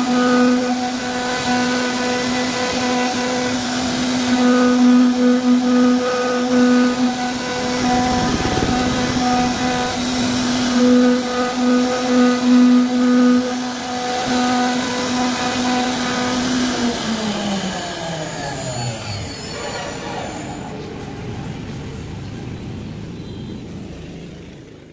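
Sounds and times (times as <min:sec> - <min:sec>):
router spindle humming: 0:00.0 - 0:20.7.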